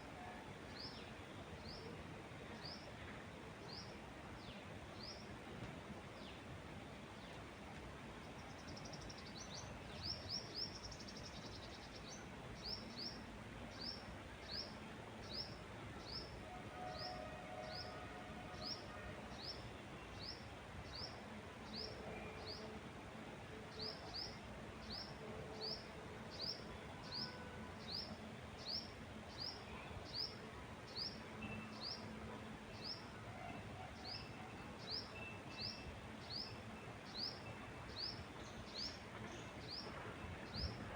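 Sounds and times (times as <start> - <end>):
wind in trees: 0.0 - 40.9.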